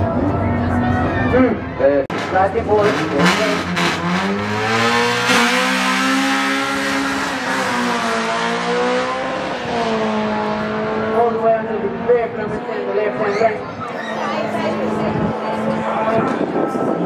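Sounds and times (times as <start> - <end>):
cars accelerating hard: 2.1 - 17.0.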